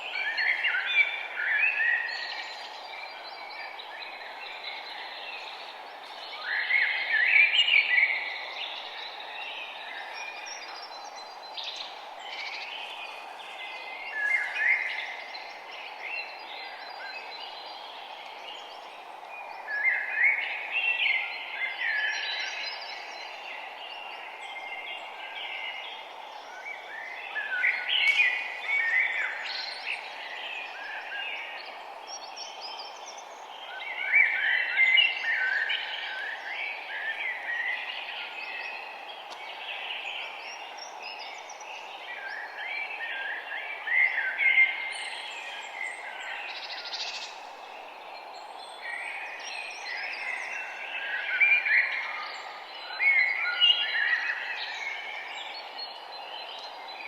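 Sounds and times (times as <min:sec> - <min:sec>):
songbirds chirping and singing: 0:00.0 - 0:57.0
steady outdoor hiss: 0:00.0 - 0:57.0.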